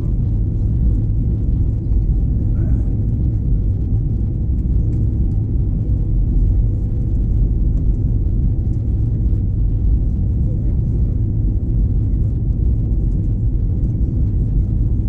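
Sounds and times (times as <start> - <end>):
airliner cabin engine rumble: 0.0 - 15.0
faint steady hum: 0.0 - 15.0.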